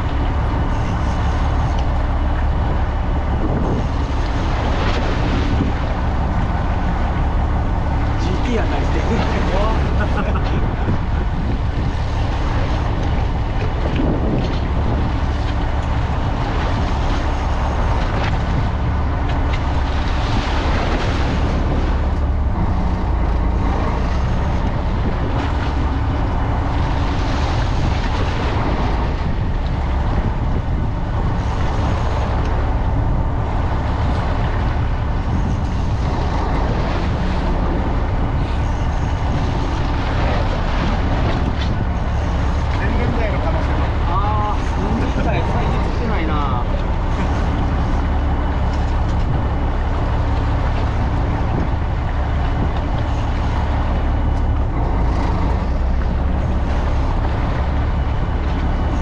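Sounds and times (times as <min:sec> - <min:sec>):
boat engine humming: 0:00.0 - 0:59.0
rushing water: 0:00.0 - 0:59.0
wind: 0:00.0 - 0:59.0.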